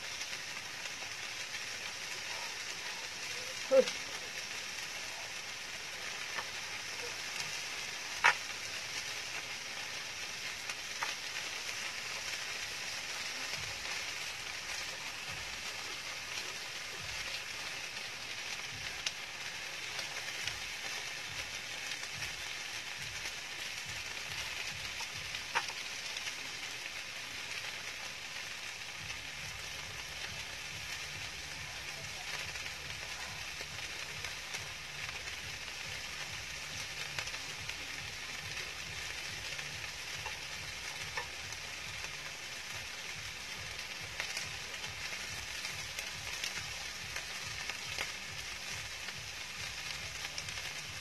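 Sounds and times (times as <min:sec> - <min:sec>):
fried rice sizzling in pan: 0:00.0 - 0:51.0.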